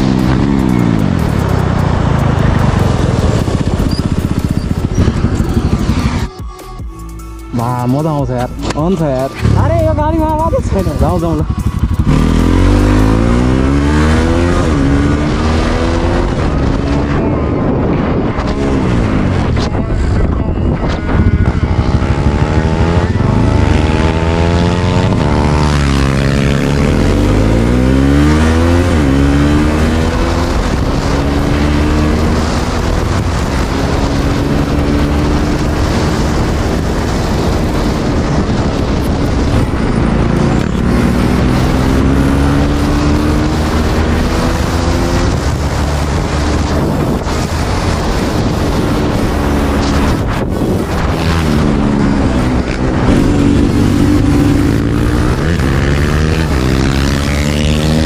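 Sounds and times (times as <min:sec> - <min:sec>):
motorcycle engines revving: 0:00.0 - 0:06.4, 0:07.6 - 0:58.0
wind noise on microphone: 0:00.0 - 0:06.9, 0:07.5 - 0:58.0.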